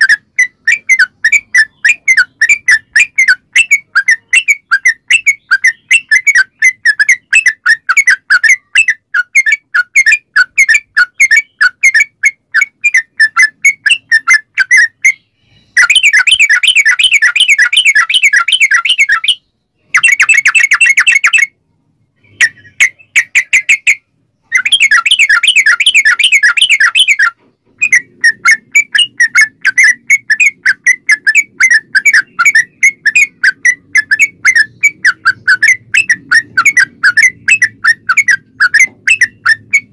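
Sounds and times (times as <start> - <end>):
bulbul singing: 0.0 - 21.6, 22.2 - 39.9.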